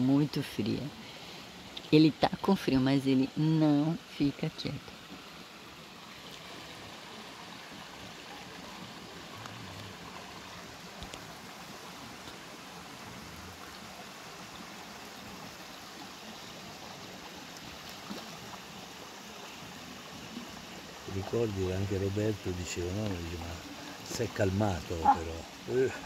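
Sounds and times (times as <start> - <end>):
stream and waterfall over rocks: 0.0 - 26.0.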